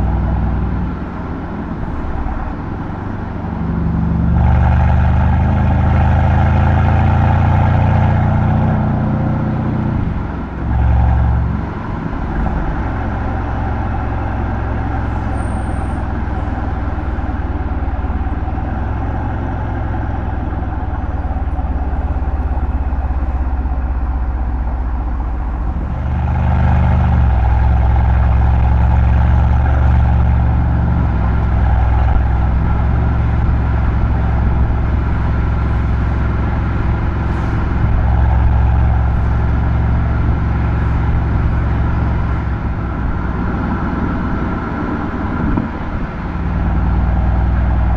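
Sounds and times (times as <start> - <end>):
car engine and exhaust while driving: 0.0 - 47.9.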